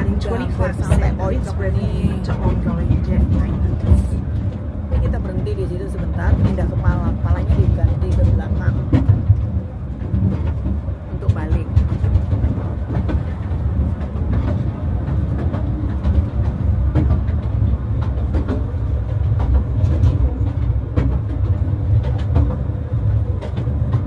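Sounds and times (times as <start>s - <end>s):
clicks and knocks of rails: 0.0s - 24.0s
train rumbling on rails: 0.0s - 24.0s.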